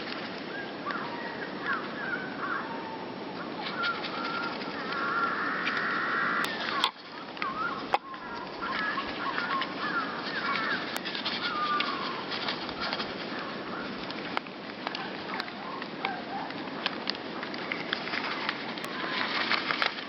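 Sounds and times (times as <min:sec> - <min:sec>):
birds chirping: 0:00.0 - 0:14.2, 0:14.8 - 0:16.9
steady background hiss: 0:00.0 - 0:20.0.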